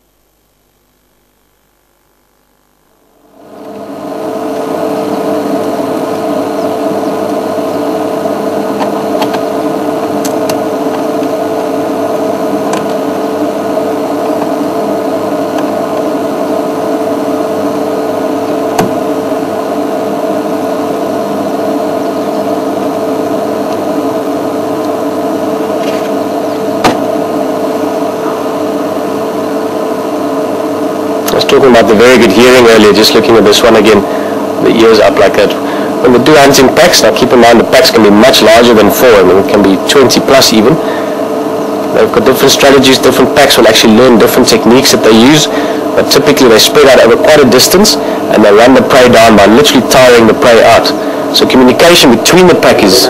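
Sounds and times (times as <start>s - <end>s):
droning hum of held tones: 0.0s - 53.0s.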